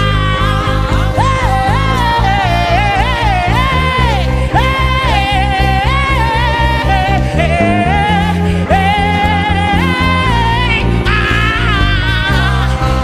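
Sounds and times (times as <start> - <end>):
gospel worship music: 0.0 - 13.0
person singing gliding melody: 0.0 - 13.0.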